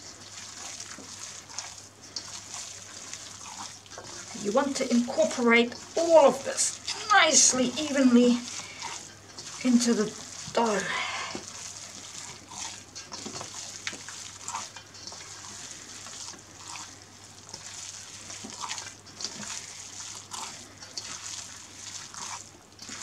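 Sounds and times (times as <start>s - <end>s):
hands kneading wet dough: 0.0s - 23.0s.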